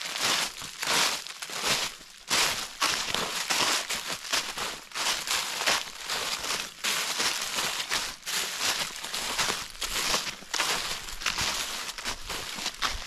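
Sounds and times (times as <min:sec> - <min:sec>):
footsteps crunching through leaves: 0:00.0 - 0:13.0.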